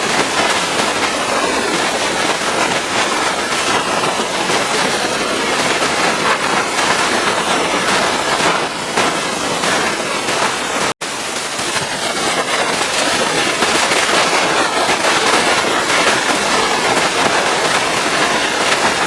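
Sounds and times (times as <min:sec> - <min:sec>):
pressure washer spraying: 0:00.0 - 0:19.0.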